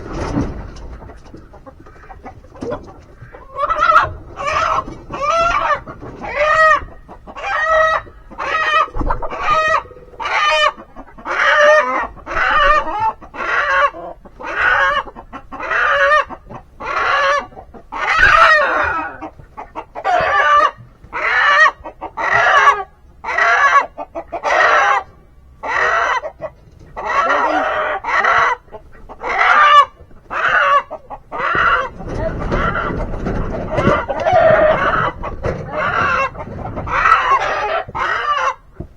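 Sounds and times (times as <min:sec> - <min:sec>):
chicken squawking: 0:01.0 - 0:38.8.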